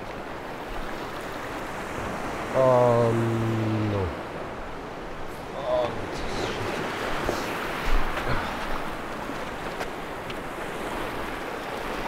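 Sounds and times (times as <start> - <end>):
waves washing over rocky shore: 0.0 - 12.0.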